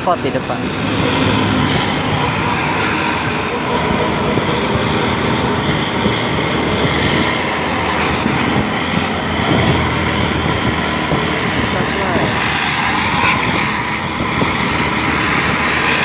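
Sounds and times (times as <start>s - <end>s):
bus with loud exhaust: 0.0s - 16.0s
road noise: 0.0s - 16.0s
wind noise: 0.0s - 16.0s.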